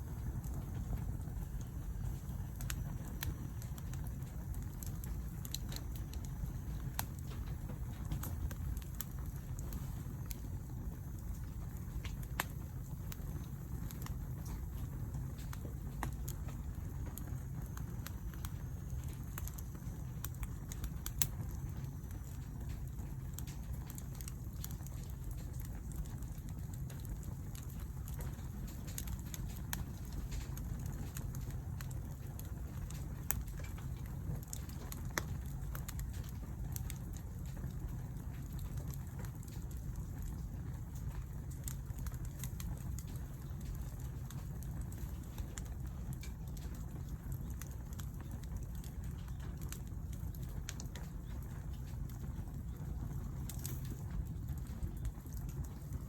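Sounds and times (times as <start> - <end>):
low steady rumble: 0.0 - 56.0
wood fire crackling: 0.0 - 56.0.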